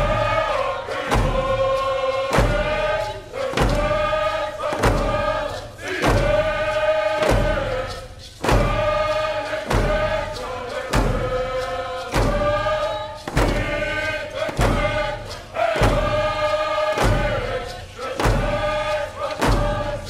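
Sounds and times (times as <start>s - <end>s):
slow steady drum beat: 0.0s - 20.0s
voices singing a chant: 0.0s - 20.0s.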